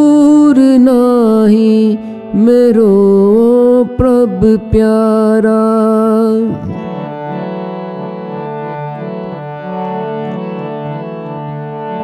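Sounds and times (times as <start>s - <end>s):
harmonium playing: 0.0s - 12.0s.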